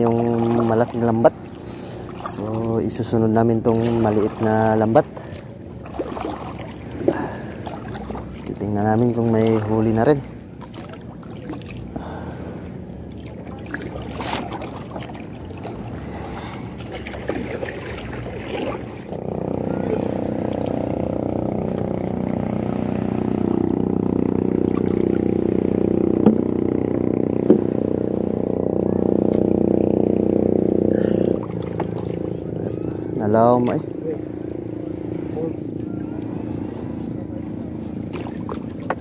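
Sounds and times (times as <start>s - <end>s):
engine running steadily: 0.0s - 39.0s
water and boat sounds: 0.0s - 39.0s.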